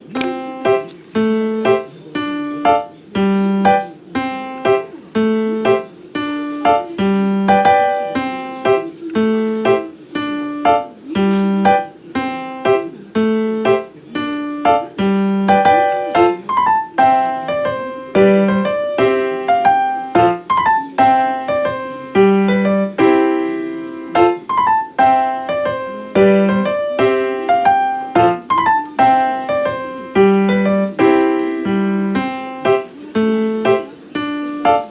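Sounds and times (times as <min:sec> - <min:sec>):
background piano music: 0:00.0 - 0:34.9.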